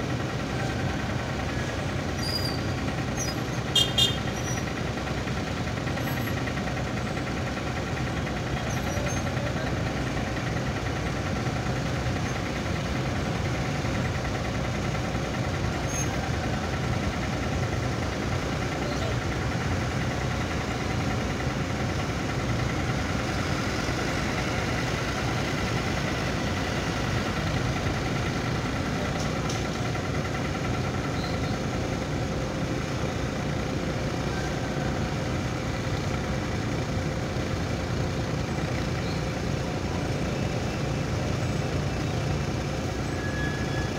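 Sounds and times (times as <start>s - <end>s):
ship diesel engine droning: 0.0s - 43.9s.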